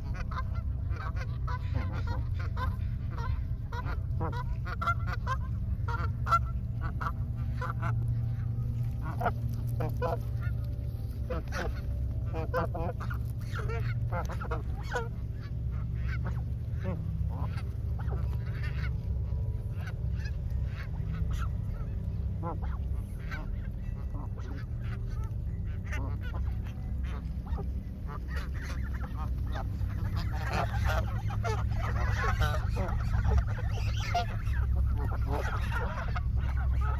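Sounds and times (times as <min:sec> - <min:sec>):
geese honking: 0:00.0 - 0:36.9
steady low rumble: 0:00.0 - 0:36.9.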